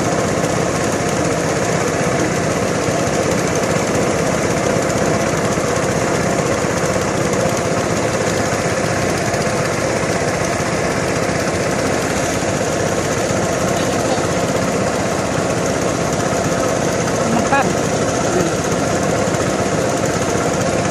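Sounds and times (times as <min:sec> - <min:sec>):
small engine running: 0:00.0 - 0:20.9.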